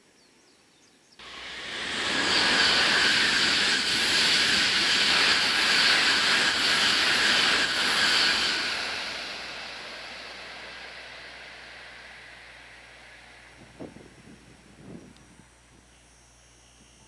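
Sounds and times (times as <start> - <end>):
high-speed train passing: 1.2 - 14.9.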